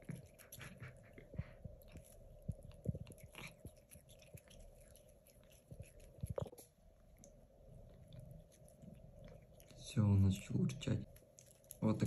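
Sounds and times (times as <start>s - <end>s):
cat chewing foil ribbon: 0.0s - 12.0s.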